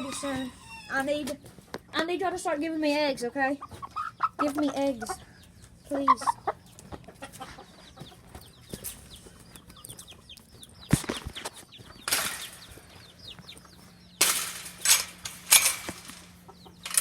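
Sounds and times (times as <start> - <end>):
chickens peeping and clucking: 0.0 - 17.0.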